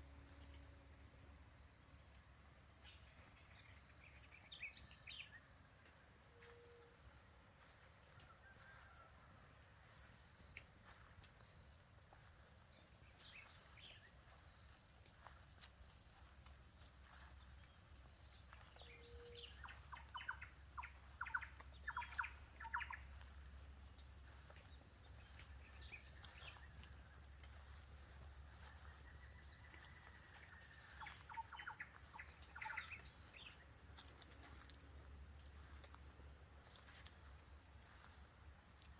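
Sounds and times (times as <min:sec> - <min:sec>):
chorus of crickets and insects: 0:00.0 - 0:38.9.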